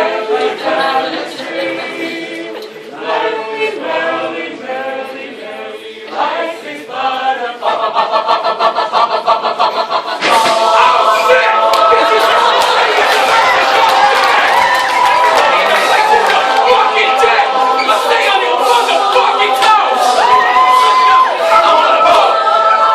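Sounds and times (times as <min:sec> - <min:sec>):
a cappella group singing in harmony: 0:00.0 - 0:22.9.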